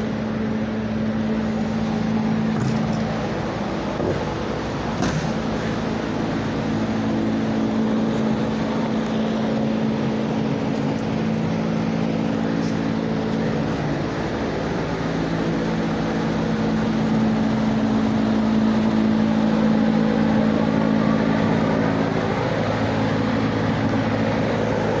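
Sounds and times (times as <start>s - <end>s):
machine droning hum: 0.0s - 25.0s.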